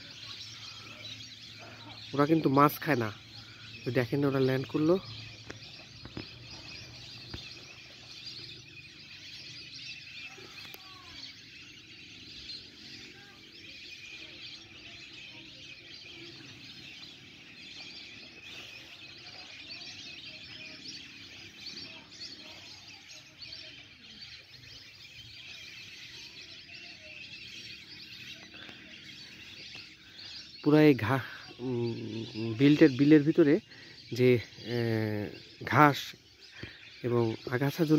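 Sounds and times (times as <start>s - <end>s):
distant flock of birds chattering: 0.0s - 37.9s
faint low whistling bird calls: 0.0s - 37.9s.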